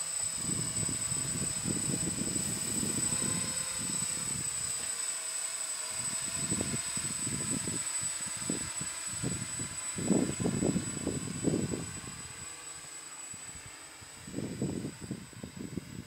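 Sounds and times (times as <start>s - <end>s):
drone motors and propellers droning: 0.0s - 16.0s
wind rumbling on microphone: 0.4s - 4.7s, 6.0s - 12.6s, 13.3s - 16.0s.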